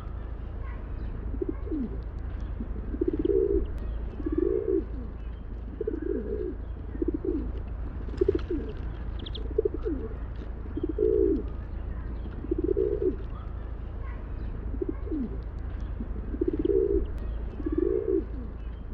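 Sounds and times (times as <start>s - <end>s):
pigeons cooing: 0.0s - 18.8s
small birds chirping: 0.0s - 18.9s
steady low rumble: 0.0s - 18.9s.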